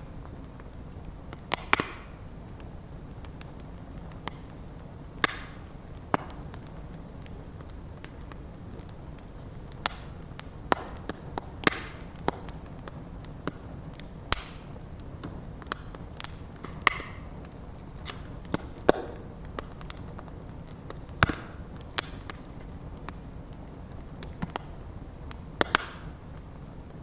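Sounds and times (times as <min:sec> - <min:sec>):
low rush of flames: 0:00.0 - 0:27.0
wood fire crackling: 0:00.0 - 0:27.0.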